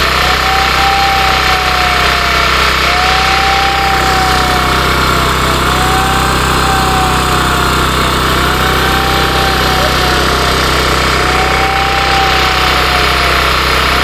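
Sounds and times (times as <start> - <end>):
heavy machinery engine hum: 0.0 - 14.0
wavering machine whine: 0.0 - 14.0.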